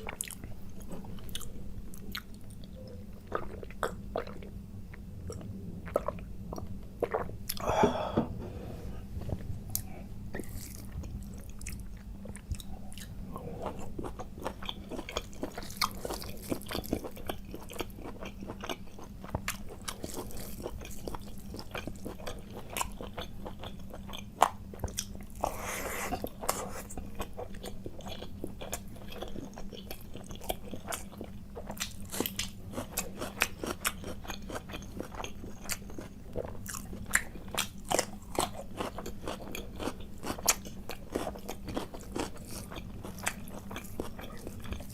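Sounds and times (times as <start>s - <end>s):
person chewing and crunching food: 0.0s - 8.1s, 9.2s - 44.9s.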